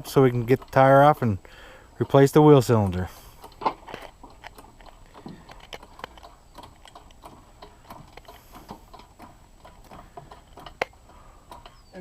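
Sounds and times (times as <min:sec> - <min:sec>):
tools and parts clicking: 0:02.0 - 0:11.9.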